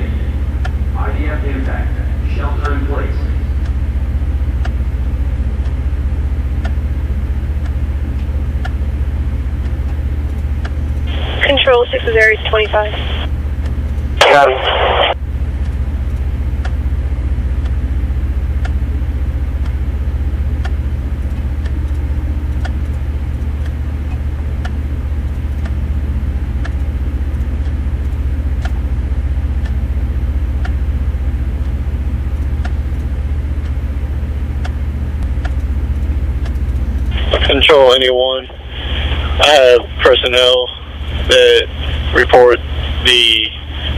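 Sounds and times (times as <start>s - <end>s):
low engine drone: 0.0s - 43.9s.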